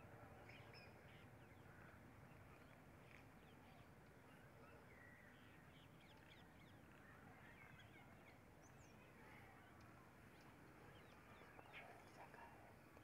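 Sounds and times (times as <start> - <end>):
low outdoor hiss: 0.0 - 13.0.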